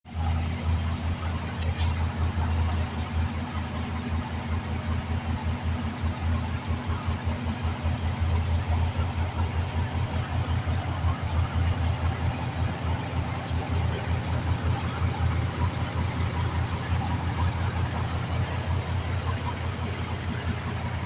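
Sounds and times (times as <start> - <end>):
car engine idling: 0.1 - 21.0.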